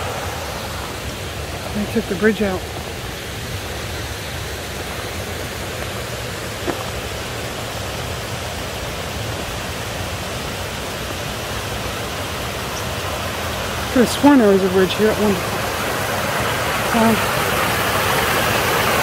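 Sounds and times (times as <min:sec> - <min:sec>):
flowing water: 0:00.0 - 0:19.0.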